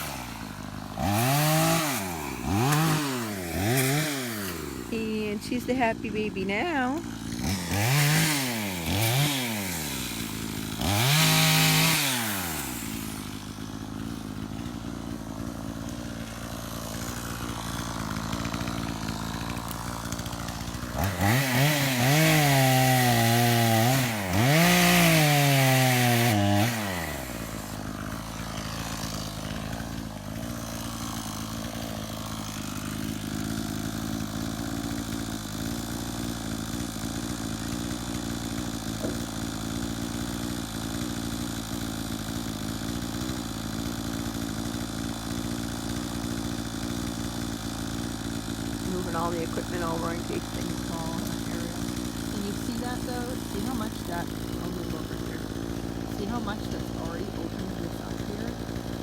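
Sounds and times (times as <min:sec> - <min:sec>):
chainsaw idling: 0:00.0 - 0:59.0
chainsaw revving: 0:00.0 - 0:59.0.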